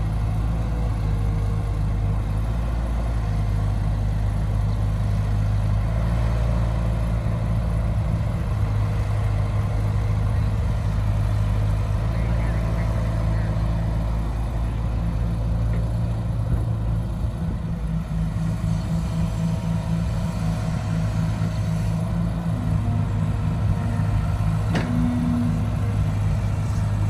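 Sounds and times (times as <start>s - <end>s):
diesel engine running at low revs: 0.0s - 27.0s.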